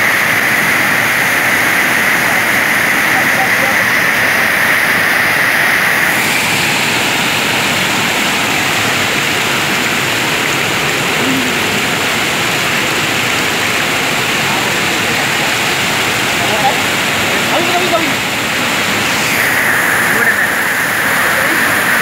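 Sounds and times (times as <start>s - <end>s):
floodwater rushing over weir: 0.0s - 22.0s.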